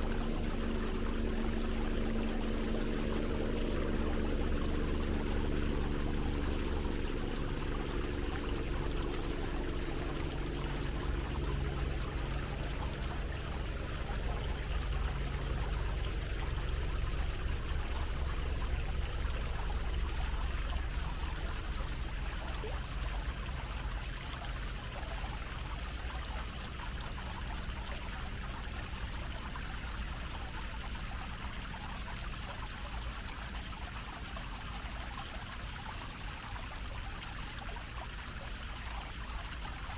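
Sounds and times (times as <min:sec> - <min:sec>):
fountain water splashing on grate: 0:00.0 - 0:39.9.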